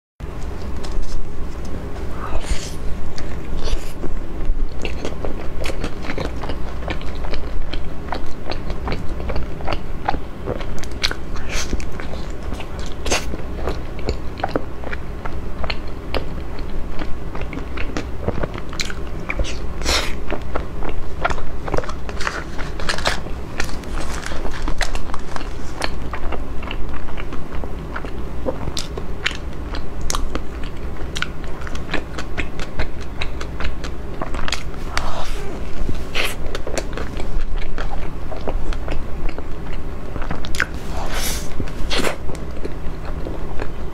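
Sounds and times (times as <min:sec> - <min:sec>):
chewing with wet mouth clicks: 0:03.1 - 0:43.9.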